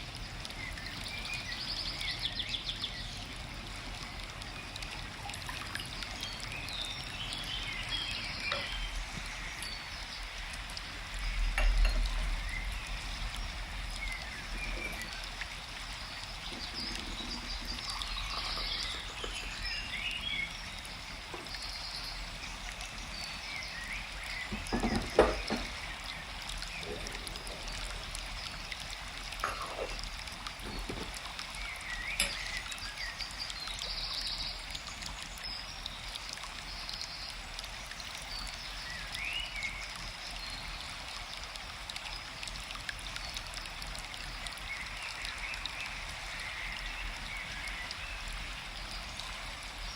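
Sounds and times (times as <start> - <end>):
running water hiss: 0.0 - 49.9
small birds chirping: 0.3 - 41.4.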